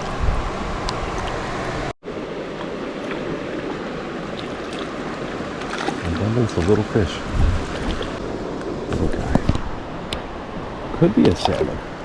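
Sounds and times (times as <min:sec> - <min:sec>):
river water rushing: 0:01.5 - 0:08.9, 0:09.6 - 0:12.0.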